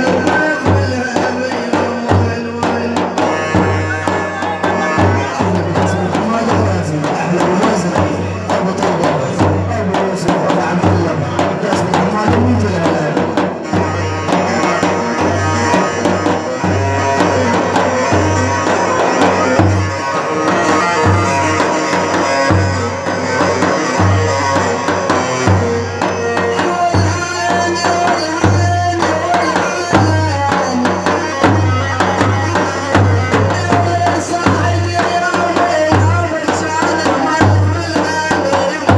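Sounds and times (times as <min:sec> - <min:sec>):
busy drum rhythm: 0:00.0 - 0:38.9.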